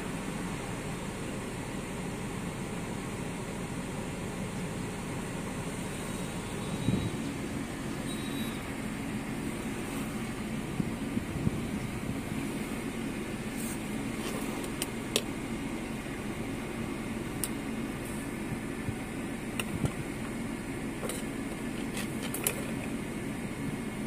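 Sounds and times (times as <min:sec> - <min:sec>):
car air conditioning blower hum: 0:00.0 - 0:24.0
engine idling: 0:00.0 - 0:24.0.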